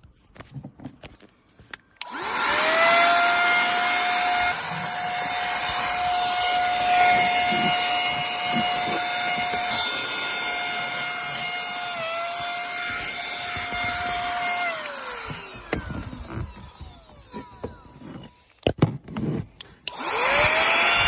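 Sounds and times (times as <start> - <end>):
vacuum cleaner motor whining: 2.0 - 21.0.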